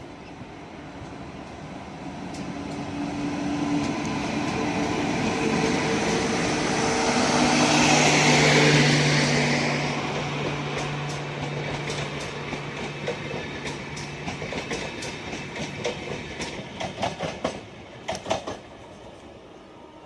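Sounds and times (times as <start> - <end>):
electric train running past: 0.0 - 20.0.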